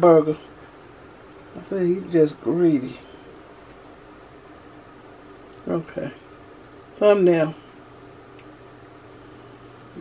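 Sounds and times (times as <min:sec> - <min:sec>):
faint low hum: 0:00.0 - 0:10.0
faint room tone hiss: 0:00.0 - 0:10.0.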